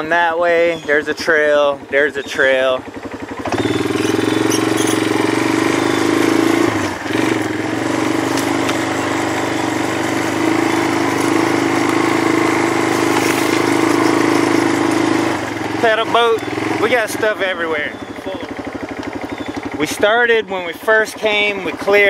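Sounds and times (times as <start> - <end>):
small vehicle engine running: 0.0 - 22.0.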